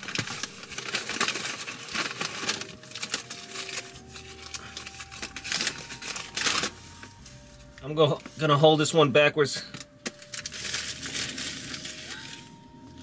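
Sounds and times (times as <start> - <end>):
paper wrapper rustling: 0.0 - 8.6, 10.0 - 13.0.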